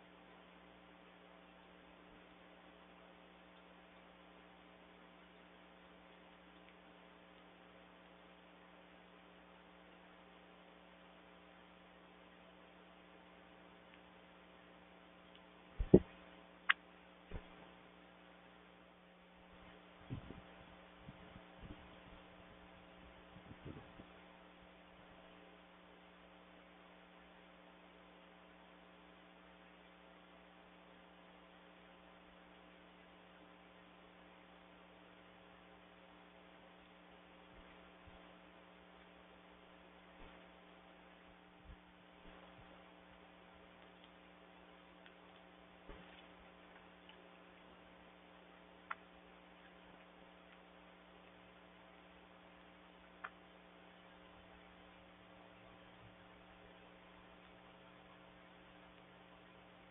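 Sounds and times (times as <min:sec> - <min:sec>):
faint electrical hum: 0:00.0 - 0:59.9
low hiss: 0:00.0 - 0:59.9.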